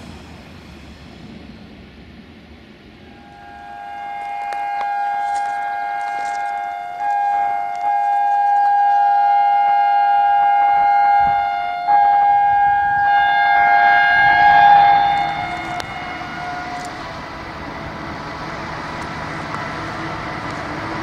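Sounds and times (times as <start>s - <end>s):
approaching train rumble: 0.0s - 21.0s
locomotive air horn: 3.0s - 21.0s.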